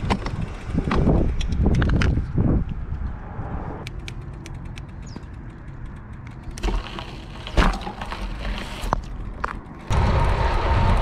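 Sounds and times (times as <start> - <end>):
bicycle tyre rumble: 0.0 - 11.0
wind: 0.0 - 11.0.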